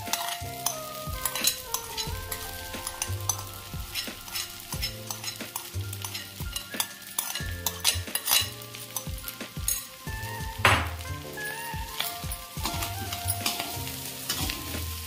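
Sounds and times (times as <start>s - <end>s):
tapioca pearls sizzling and crackling: 0.0s - 15.0s.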